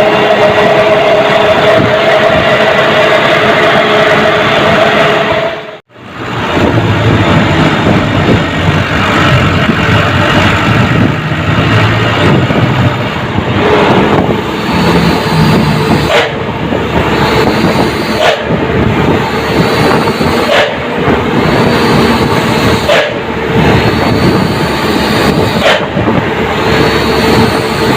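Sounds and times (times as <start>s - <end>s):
road and wind noise: 0.0s - 27.9s
truck engine drone: 0.0s - 27.9s.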